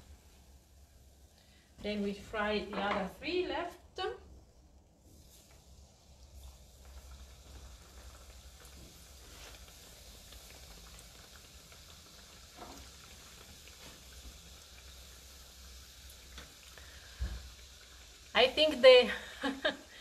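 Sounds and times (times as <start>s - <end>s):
dough sizzling in oil: 0.0s - 20.0s.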